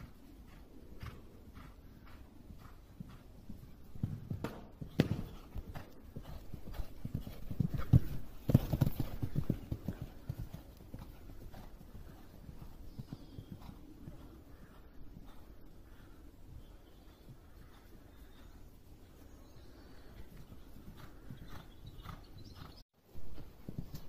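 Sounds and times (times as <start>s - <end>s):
hooves thudding on sand: 0.0s - 22.8s.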